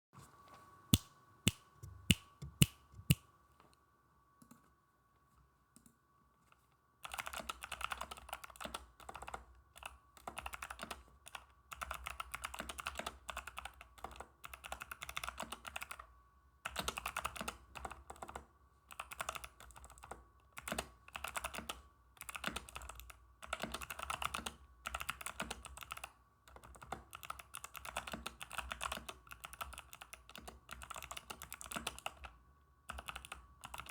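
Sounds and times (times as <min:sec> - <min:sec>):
clicky mechanical keyboard typing: 0:01.8 - 0:03.2, 0:07.0 - 0:16.1, 0:16.7 - 0:33.9.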